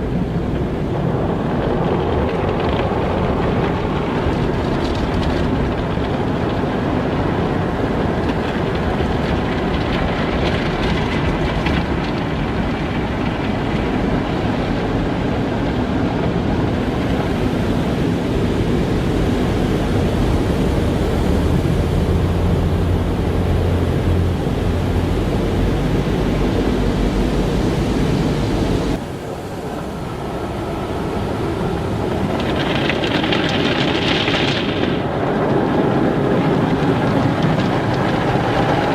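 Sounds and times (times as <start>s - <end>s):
car wash motors humming: 0.0s - 38.9s.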